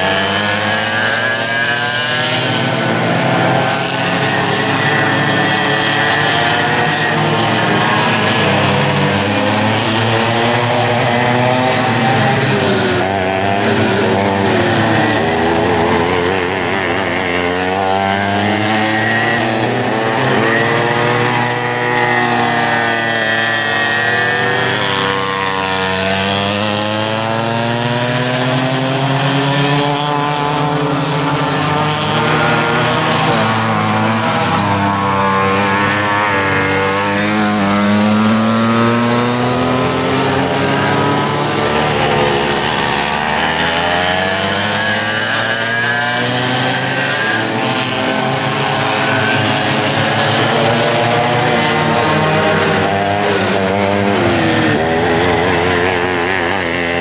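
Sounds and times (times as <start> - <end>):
kart engines racing: 0.0 - 57.0.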